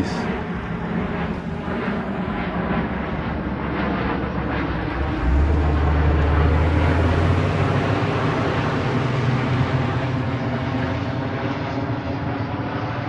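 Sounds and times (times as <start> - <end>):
engine drone passing: 0.0 - 13.0.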